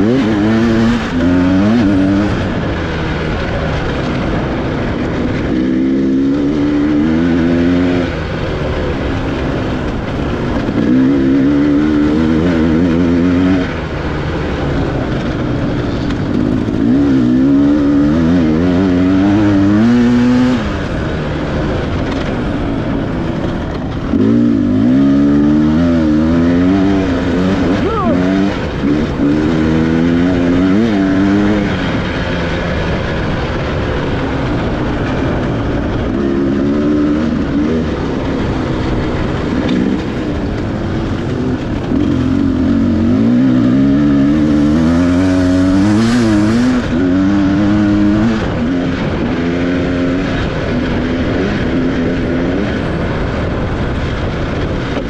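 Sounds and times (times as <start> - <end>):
dirt bike engine accelerating: 0.0 - 55.0.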